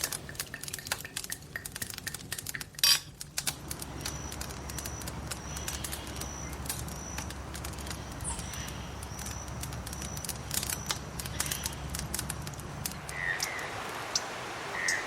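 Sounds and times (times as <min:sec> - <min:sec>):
wood fire crackling and popping: 0:00.0 - 0:13.6
low fire rumble: 0:00.0 - 0:14.8.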